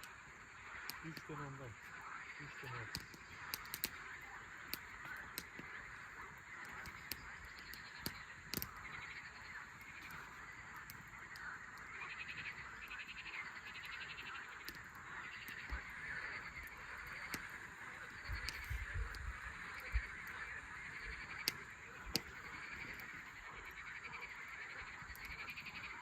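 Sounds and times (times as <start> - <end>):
sharp clicks: 0.0 - 5.9, 6.5 - 25.9
animal pulsed trills: 0.0 - 26.0.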